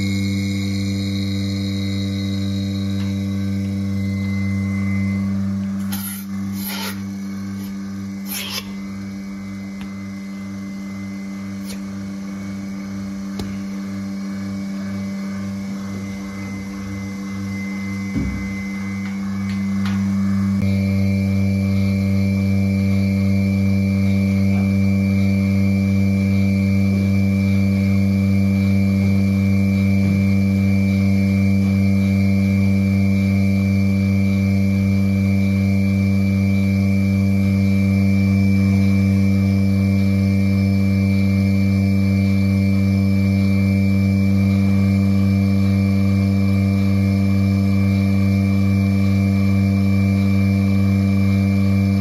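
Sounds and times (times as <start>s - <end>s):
milking machine pump humming: 0.0s - 52.0s.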